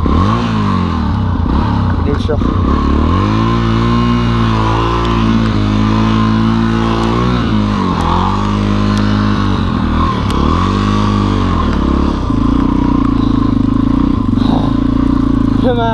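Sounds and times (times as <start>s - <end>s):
single-cylinder motorcycle engine running: 0.0s - 15.9s.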